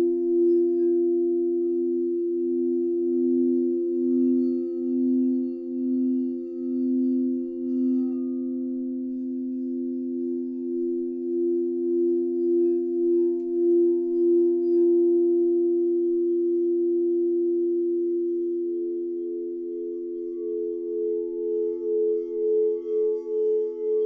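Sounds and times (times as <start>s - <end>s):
singing bowls droning: 0.0s - 24.0s
wavering high singing bowl tone: 0.0s - 24.0s.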